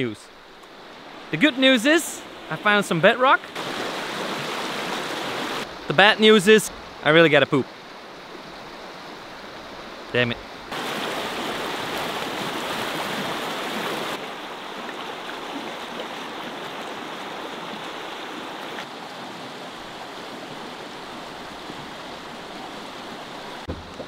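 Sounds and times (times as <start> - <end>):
river rushing over stones: 0.4 - 24.0.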